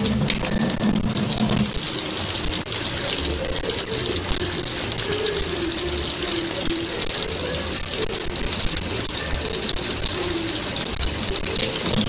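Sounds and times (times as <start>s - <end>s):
faucet water splashing into sink: 0.0s - 12.0s.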